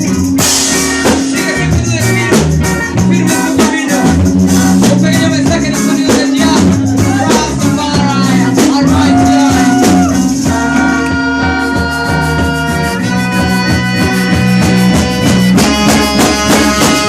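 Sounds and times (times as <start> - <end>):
reggae music over sound system: 0.0 - 17.0.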